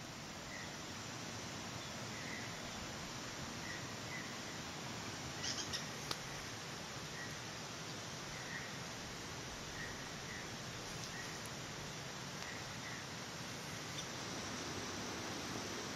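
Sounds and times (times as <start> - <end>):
forest background hiss: 0.0 - 15.9.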